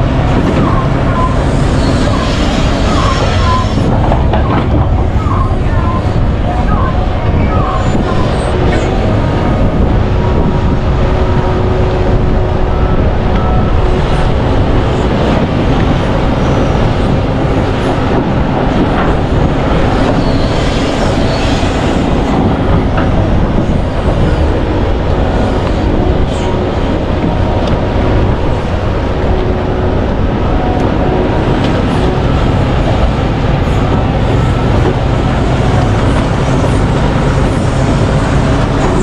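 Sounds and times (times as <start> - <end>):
excavator diesel engine and hydraulics: 0.0 - 39.0.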